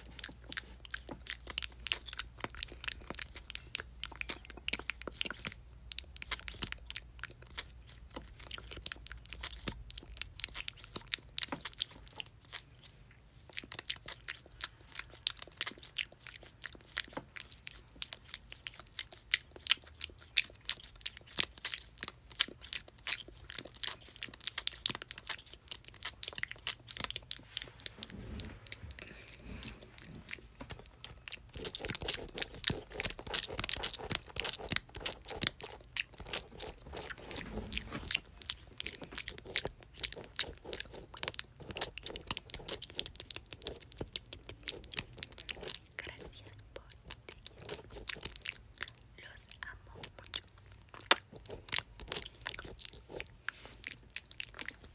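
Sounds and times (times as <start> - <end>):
wet mouth clicks and smacks: 0.1 - 27.4, 28.7 - 37.2, 38.1 - 54.9.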